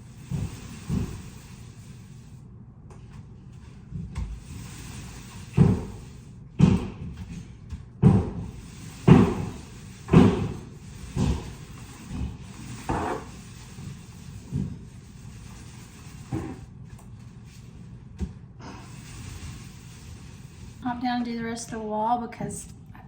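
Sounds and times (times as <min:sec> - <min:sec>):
paint roller thudding on wall: 0:00.2 - 0:02.2, 0:02.9 - 0:21.0.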